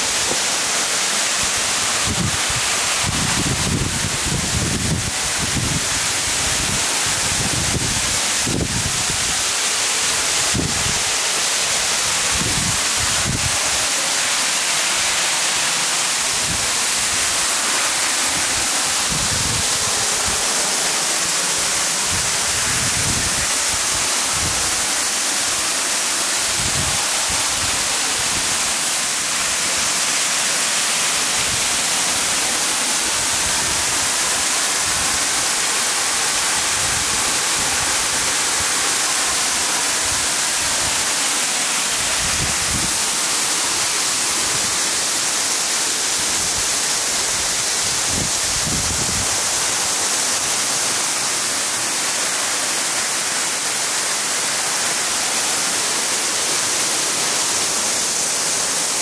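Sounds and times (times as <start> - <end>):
waterfall hissing: 0.0 - 59.0.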